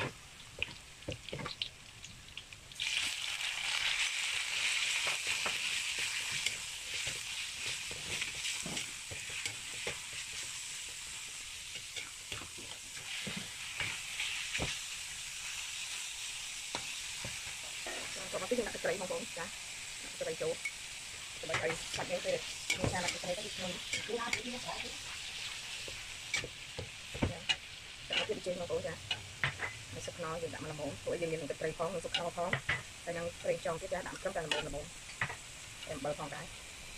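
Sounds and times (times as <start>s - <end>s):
food sizzling in hot oil: 0.0s - 36.9s.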